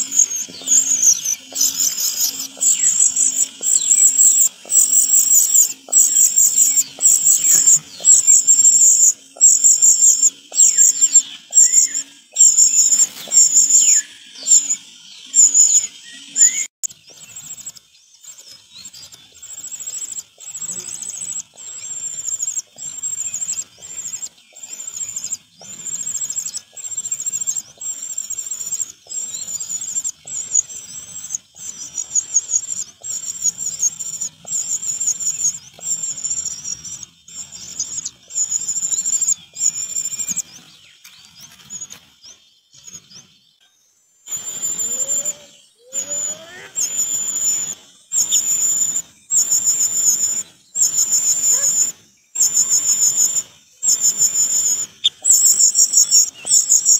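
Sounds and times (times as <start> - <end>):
cuckoo chick begging calls: 0.0 - 17.7, 19.4 - 40.7, 44.3 - 56.9.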